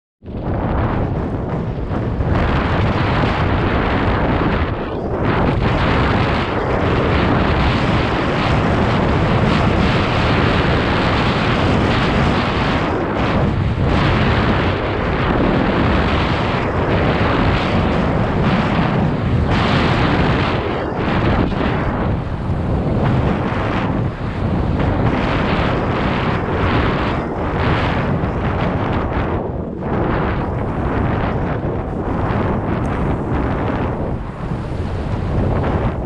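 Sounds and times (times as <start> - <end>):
wind rumble on microphone: 0.2 - 36.0
bike tyres rolling on dirt: 0.4 - 36.0.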